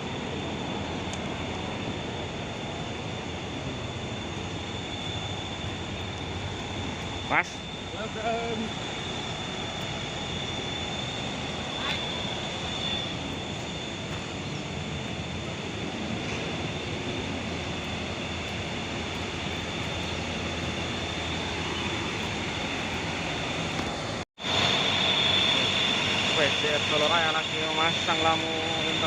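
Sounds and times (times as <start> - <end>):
bus engine: 0.0 - 27.3.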